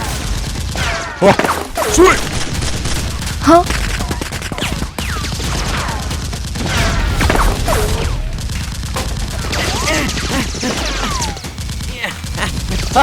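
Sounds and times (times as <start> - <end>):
rapid gunfire: 0.0 - 13.0.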